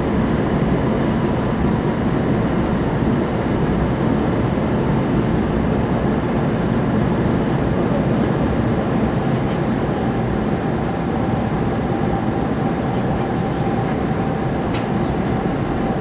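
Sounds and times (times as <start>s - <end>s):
train interior low rumble: 0.0s - 16.0s.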